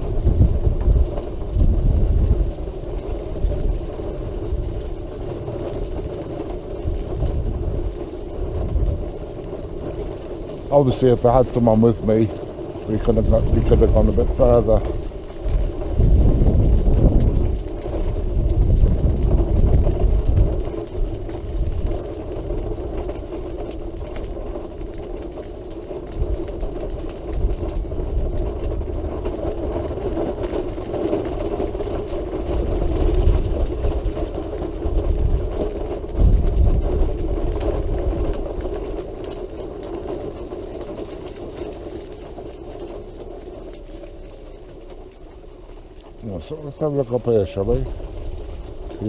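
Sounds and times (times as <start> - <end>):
low rumbles: 0.0 - 49.0.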